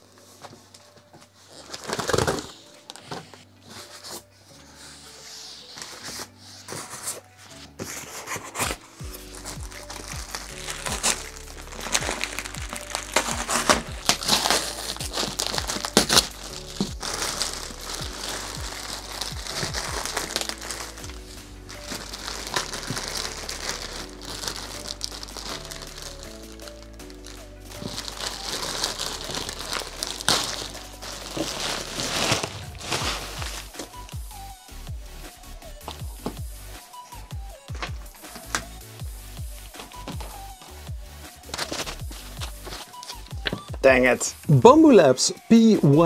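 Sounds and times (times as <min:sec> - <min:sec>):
plastic wrapping crinkling: 0:00.0 - 0:34.4, 0:37.7 - 0:43.8
background music with beat: 0:00.0 - 0:46.0.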